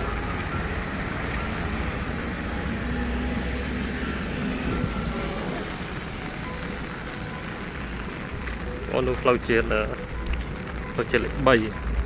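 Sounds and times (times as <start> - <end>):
cars on expressway: 0.0 - 12.0.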